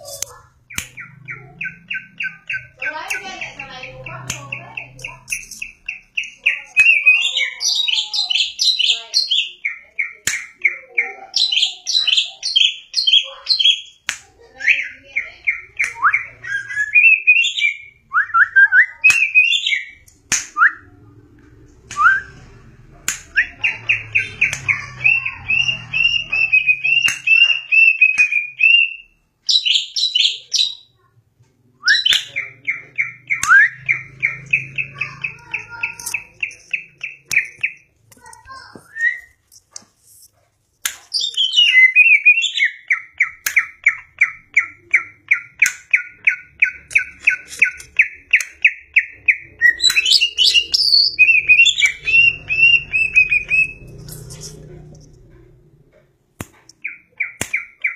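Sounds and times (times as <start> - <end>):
bird singing chirps and trills: 0.0 - 20.1, 23.4 - 31.0, 31.8 - 39.4, 41.1 - 55.0.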